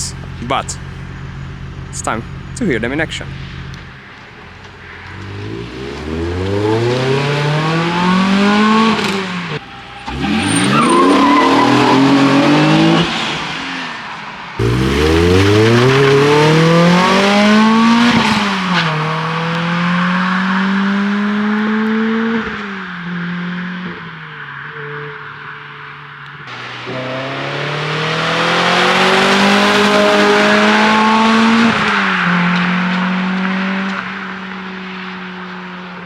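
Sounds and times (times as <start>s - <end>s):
sports car engine accelerating: 0.0s - 36.0s.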